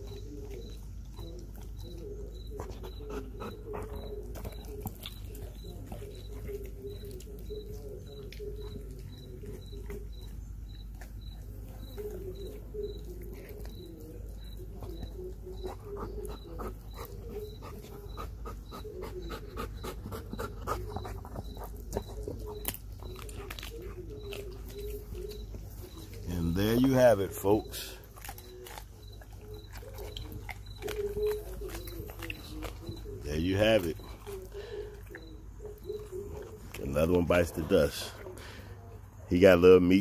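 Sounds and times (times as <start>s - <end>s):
dog panting: 0.0s - 38.9s
dog crunching bones: 0.0s - 40.0s.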